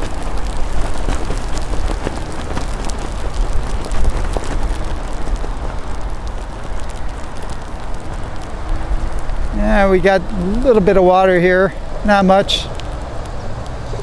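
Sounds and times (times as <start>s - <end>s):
rain hiss: 0.0s - 14.0s
raindrops ticking on microphone: 0.0s - 14.0s
wind rumbling on microphone: 0.0s - 14.0s.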